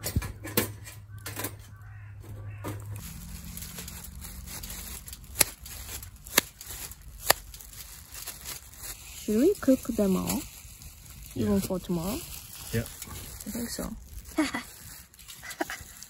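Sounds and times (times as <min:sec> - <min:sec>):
plastic gloves rustling: 0:02.5 - 0:16.0.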